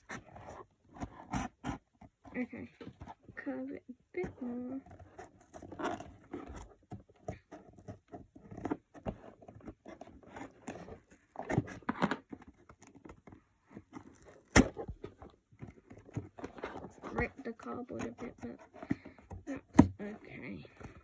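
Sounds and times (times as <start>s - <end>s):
scissors cutting cardboard: 0.0s - 2.5s, 4.2s - 21.0s.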